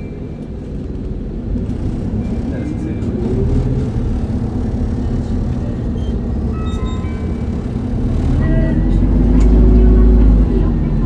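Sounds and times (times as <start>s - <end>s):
bus diesel engine hum: 0.0s - 11.0s.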